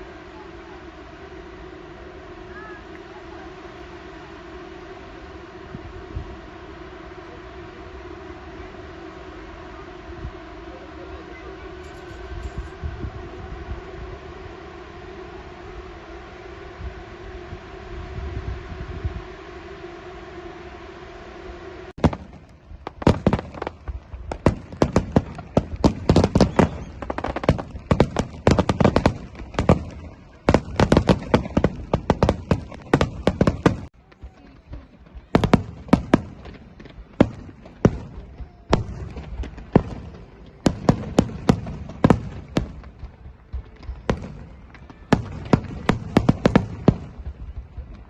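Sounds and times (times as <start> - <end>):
fireworks bangs: 0.0 - 48.0.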